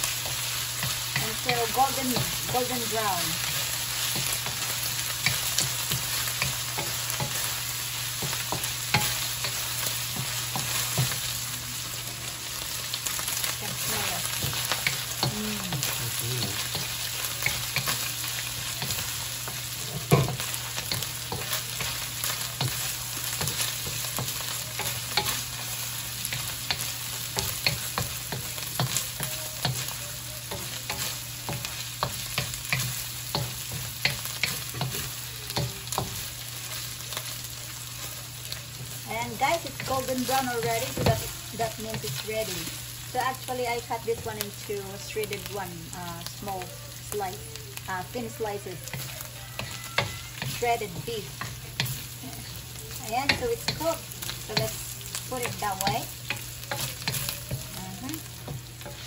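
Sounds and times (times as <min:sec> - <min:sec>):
meat sizzling in hot oil: 0:00.0 - 0:59.0.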